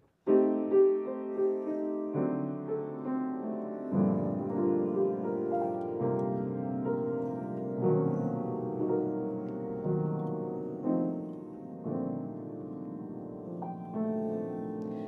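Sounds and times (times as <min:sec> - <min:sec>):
piano playing slow chords: 0:00.2 - 0:15.0.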